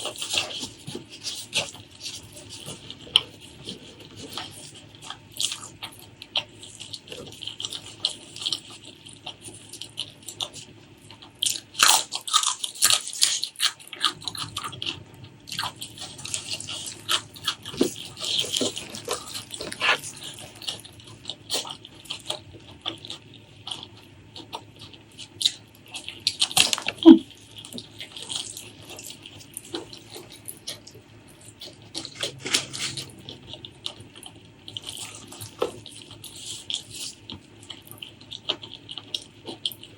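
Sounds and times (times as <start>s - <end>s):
wet chewing and lip-smacking: 0.0s - 39.9s.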